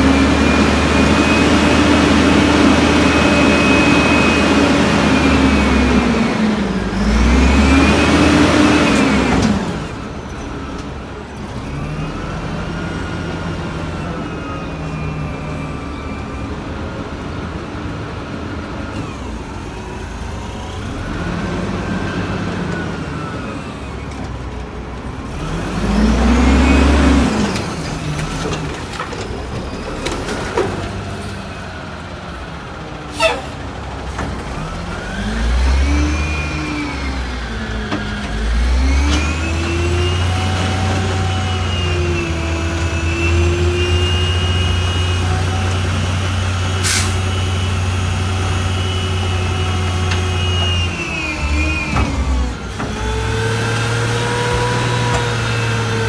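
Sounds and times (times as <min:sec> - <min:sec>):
garbage truck diesel engine revving: 0:00.0 - 0:56.0.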